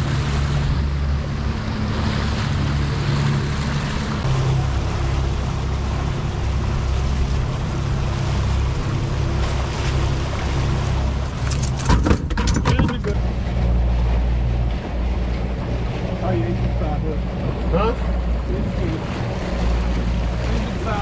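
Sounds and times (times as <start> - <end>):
outboard motor humming: 0.0 - 21.0
water rushing: 0.0 - 21.0.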